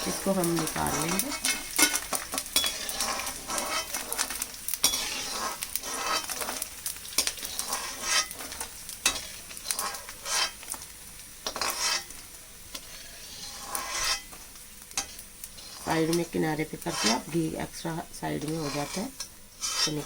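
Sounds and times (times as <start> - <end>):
spoon scraping pan: 0.0 - 10.8, 11.4 - 17.6, 18.3 - 20.0
sizzling in hot oil: 0.0 - 20.0.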